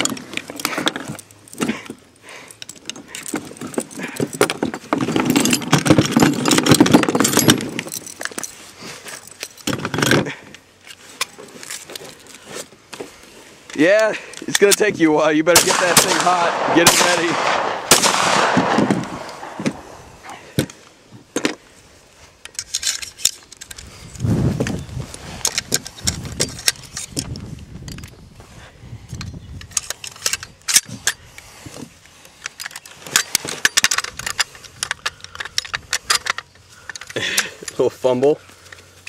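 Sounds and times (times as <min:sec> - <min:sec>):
rifle parts clicking and rattling: 0:00.0 - 0:28.3, 0:29.1 - 0:39.0.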